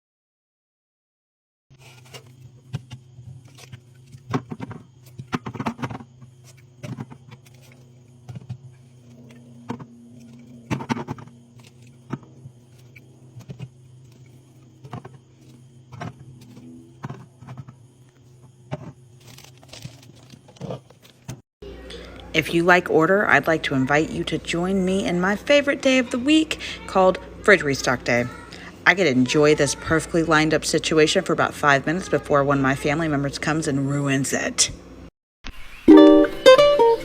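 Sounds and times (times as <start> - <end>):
steady low hum: 1.8 - 35.1.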